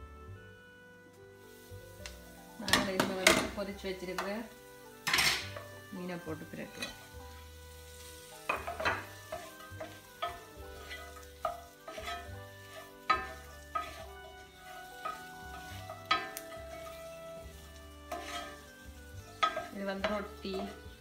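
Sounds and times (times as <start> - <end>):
light frying sizzle: 0.0 - 21.0
spatula knocking and scraping pan: 2.6 - 21.0.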